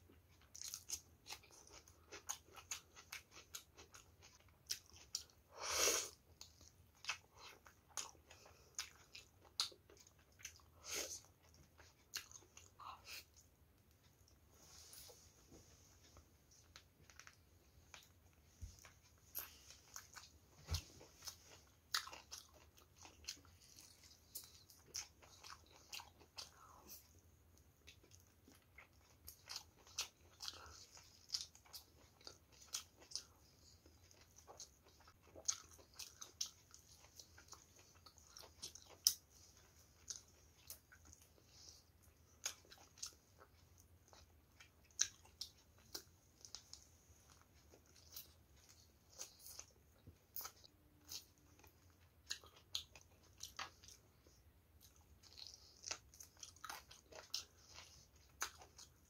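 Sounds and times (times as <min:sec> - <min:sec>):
chewing and mouth smacks: 0:00.1 - 0:05.4, 0:06.1 - 0:15.1, 0:16.0 - 0:59.0.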